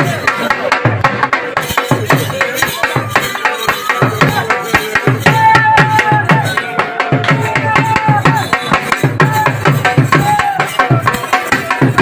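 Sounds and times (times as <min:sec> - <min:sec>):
fast dense drumming: 0:00.0 - 0:12.0.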